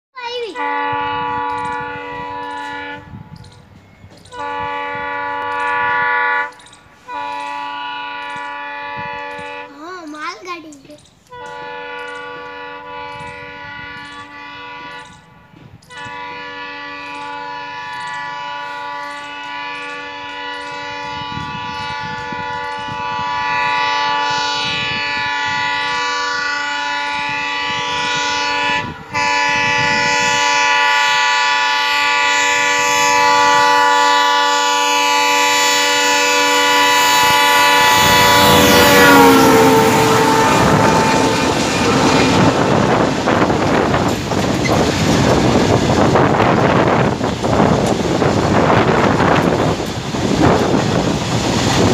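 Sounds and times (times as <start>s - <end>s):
locomotive horn: 0.5s - 3.3s, 4.2s - 9.8s, 11.3s - 51.9s.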